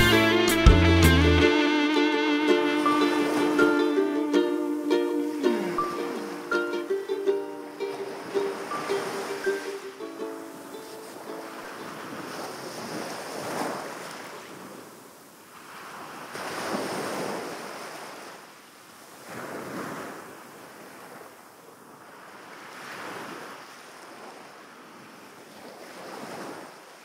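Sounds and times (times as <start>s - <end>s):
sea waves washing ashore: 1.4s - 27.0s.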